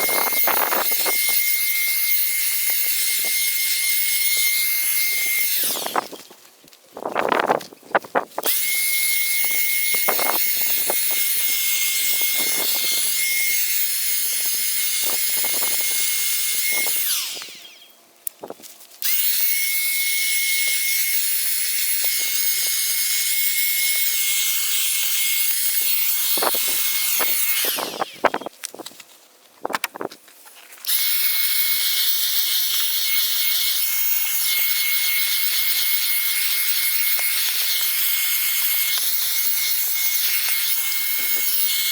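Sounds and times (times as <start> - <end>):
handheld vacuum cleaner running: 0.0 - 6.3, 8.4 - 17.8, 19.0 - 28.5, 30.9 - 41.9.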